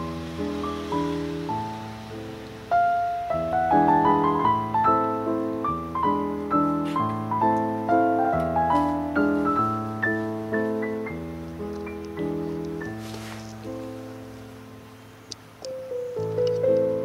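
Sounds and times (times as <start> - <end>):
calm piano music: 0.0 - 17.0.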